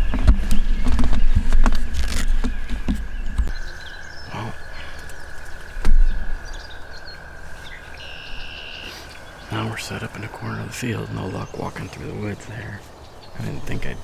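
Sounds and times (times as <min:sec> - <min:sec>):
songbird chirps: 0:00.0 - 0:14.0.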